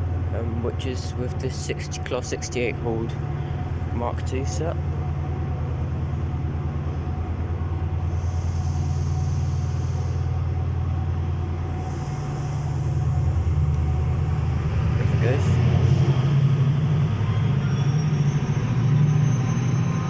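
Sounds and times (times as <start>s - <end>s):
locomotive engine drone: 0.0s - 20.0s.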